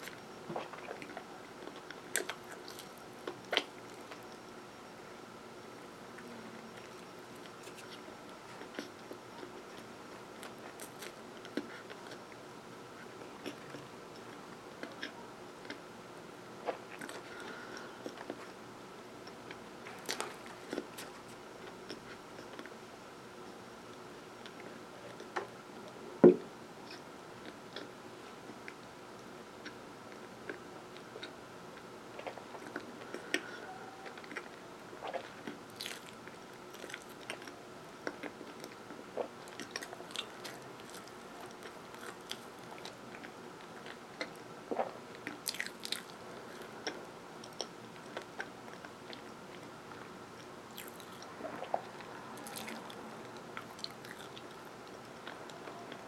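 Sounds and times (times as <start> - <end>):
close-miked chewing and crunching: 0.0 - 4.6, 5.6 - 15.9, 16.6 - 18.6, 19.2 - 22.9, 26.9 - 56.0.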